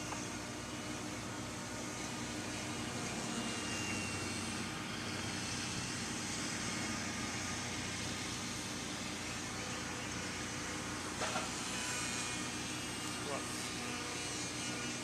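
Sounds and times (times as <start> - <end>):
model plane motor buzzing: 0.0 - 15.0.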